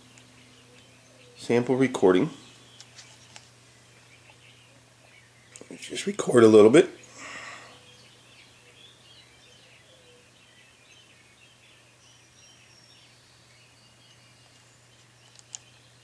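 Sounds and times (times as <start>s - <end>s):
faint birds chirping: 0.0s - 16.0s
low steady hum: 0.0s - 16.0s.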